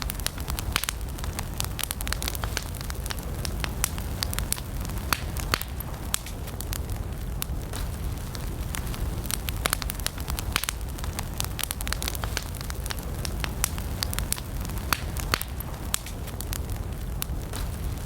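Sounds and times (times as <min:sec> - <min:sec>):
campfire crackling and popping: 0:00.0 - 0:18.0
low rumble of flames: 0:00.0 - 0:18.0.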